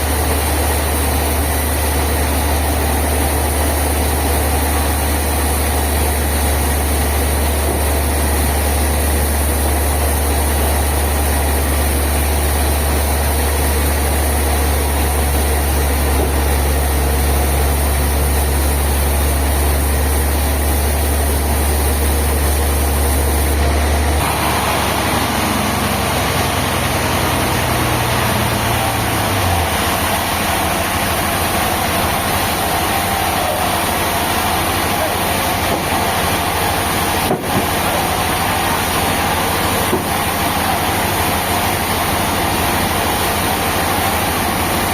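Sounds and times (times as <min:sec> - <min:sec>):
heavy machinery engine humming: 0:00.0 - 0:44.9
noisy machine sound: 0:00.0 - 0:44.9.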